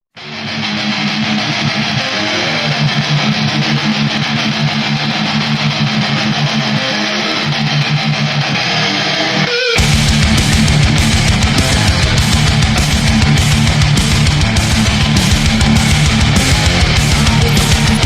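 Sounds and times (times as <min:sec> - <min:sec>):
electric guitar low notes: 0:00.2 - 0:18.0.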